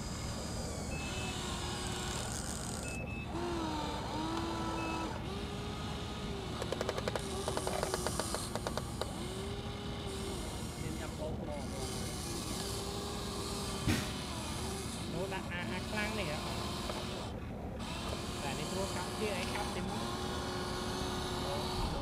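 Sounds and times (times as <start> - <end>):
toy excavator motors whining: 0.0 - 22.0.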